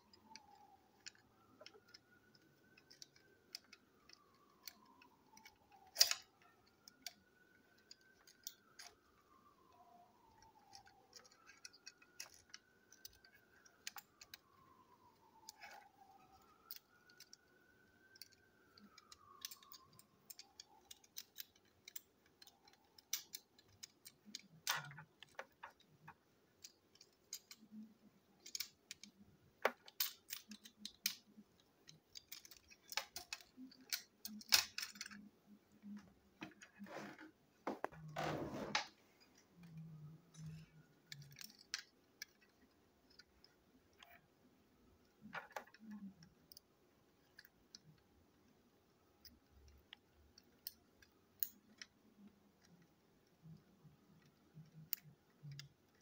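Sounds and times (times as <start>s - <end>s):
plastic parts clicking and knocking: 0.1s - 44.3s, 44.9s - 48.6s, 49.2s - 56.0s.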